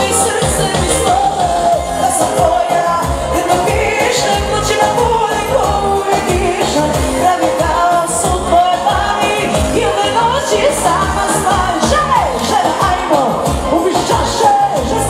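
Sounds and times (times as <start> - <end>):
live band with electric guitar: 0.0 - 15.0
woman singing pop: 0.0 - 15.0.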